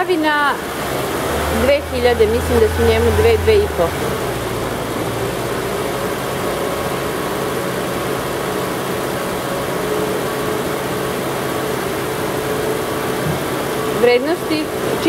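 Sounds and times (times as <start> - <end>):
car engine at raised revs: 0.0 - 15.0.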